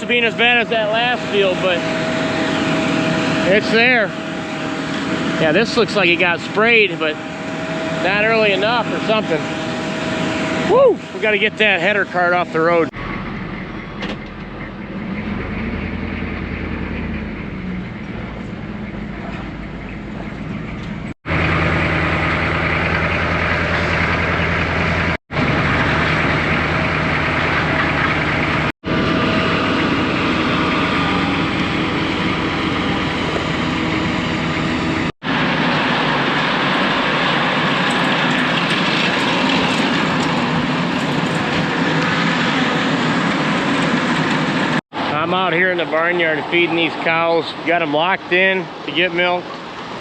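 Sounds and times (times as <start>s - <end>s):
heavy machinery engines running: 0.0s - 50.0s.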